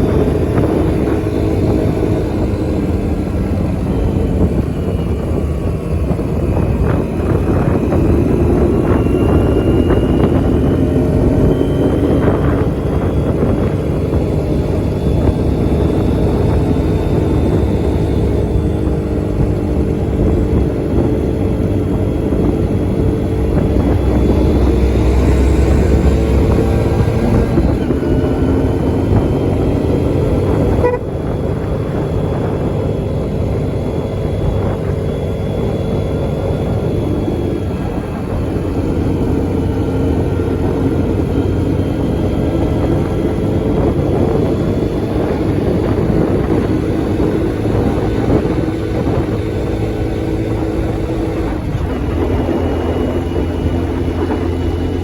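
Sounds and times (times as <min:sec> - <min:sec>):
road traffic engines running: 0:00.0 - 0:55.0.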